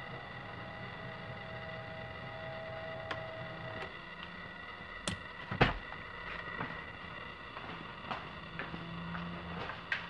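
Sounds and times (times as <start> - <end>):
seat motor humming: 0.0 - 10.0.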